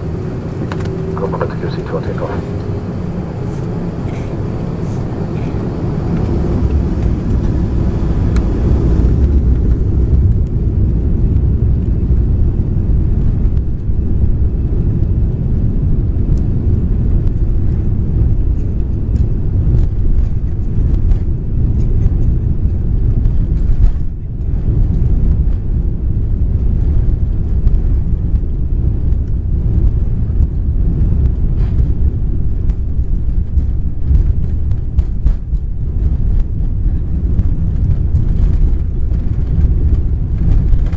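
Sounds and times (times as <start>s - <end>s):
jet engines at takeoff power: 0.0s - 40.9s
wheels rumbling on runway: 0.0s - 40.9s.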